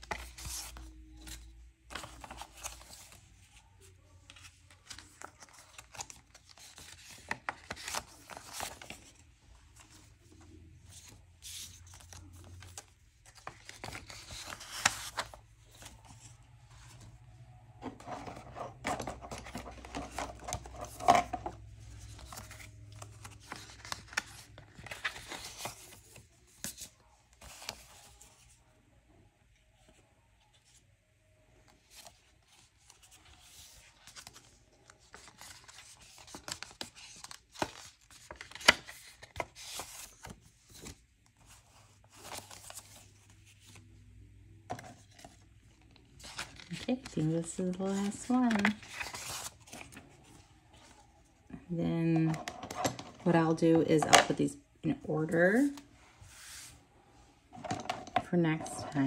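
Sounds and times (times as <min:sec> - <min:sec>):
paper envelopes and banknotes rustling: 0:00.0 - 0:28.6, 0:31.6 - 0:54.4, 0:55.1 - 0:59.0.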